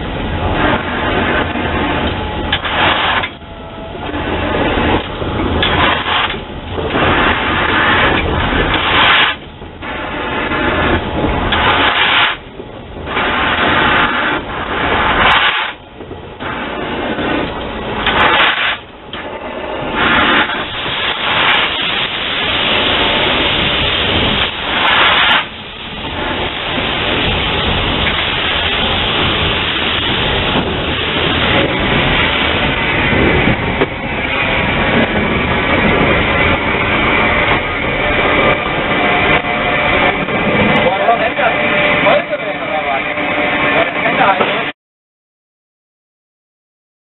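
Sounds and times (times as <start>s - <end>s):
steam hissing: 0.0s - 44.4s
steam locomotive chuffing: 0.0s - 44.7s.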